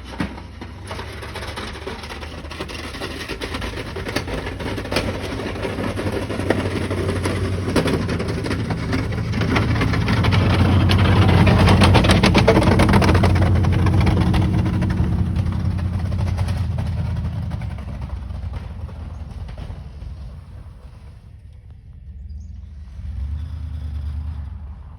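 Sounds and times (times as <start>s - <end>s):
vehicle engine droning: 0.0s - 24.9s.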